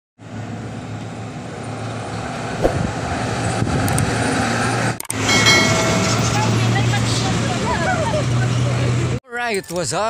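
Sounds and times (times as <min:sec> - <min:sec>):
wind and road noise: 0:00.2 - 0:09.2.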